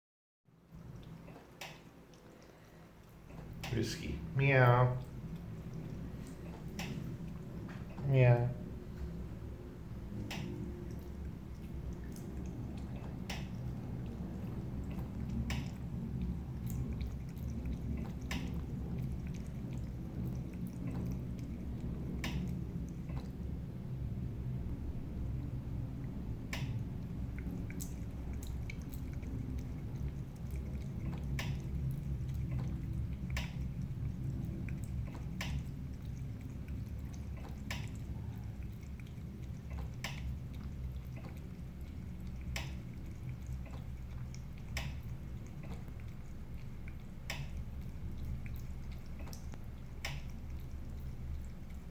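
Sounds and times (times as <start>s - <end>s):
low steady hum: 0.5s - 51.9s.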